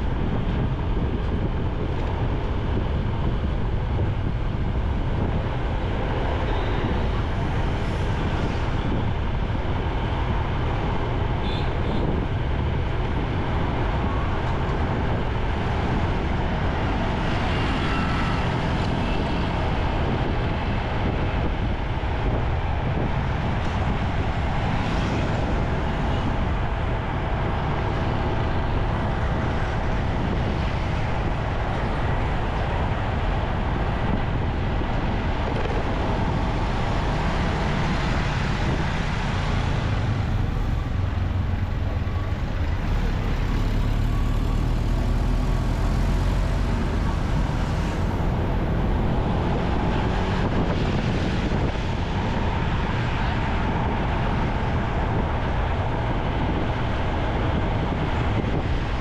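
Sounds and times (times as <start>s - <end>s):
city traffic rumble: 0.0s - 59.0s.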